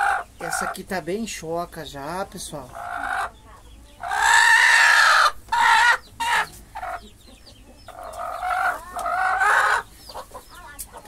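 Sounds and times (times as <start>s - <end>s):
chickens calling: 0.0s - 11.0s.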